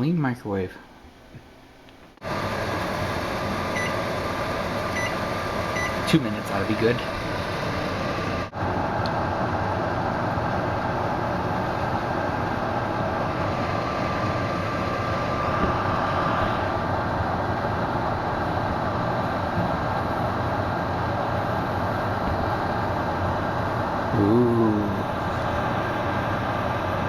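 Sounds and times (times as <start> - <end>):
microwave oven humming: 1.0 - 27.0.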